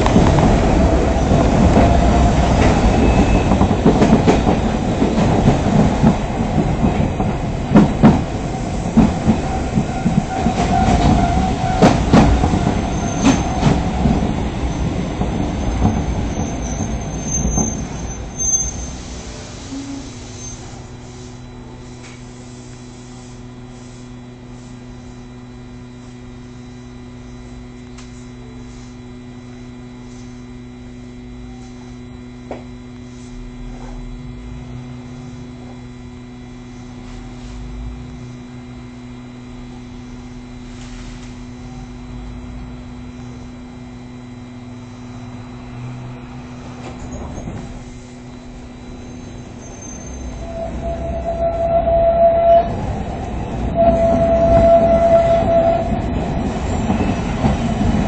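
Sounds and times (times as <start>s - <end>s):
electrical hum in tram car: 0.0s - 58.0s.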